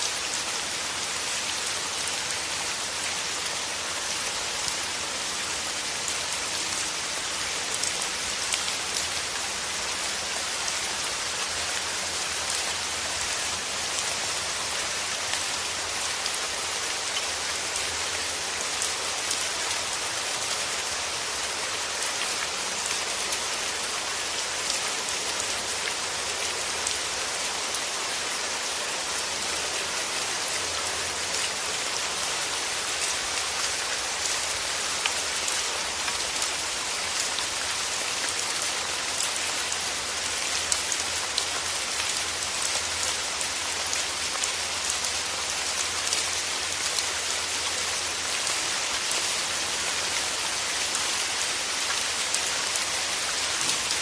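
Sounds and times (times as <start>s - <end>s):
steady rain falling: 0.0s - 54.0s
raindrops ticking on surfaces: 0.1s - 54.0s.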